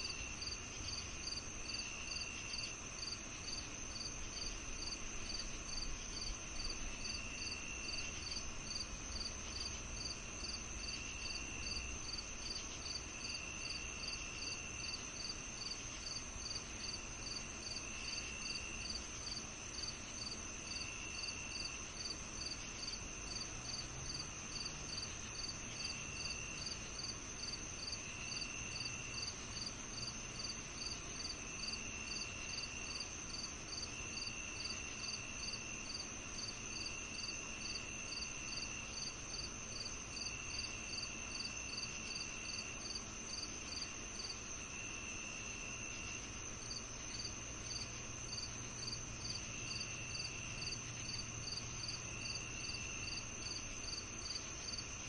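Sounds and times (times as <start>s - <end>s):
lower cricket trill: 0.0s - 55.0s
regular cricket chirp: 0.0s - 55.0s.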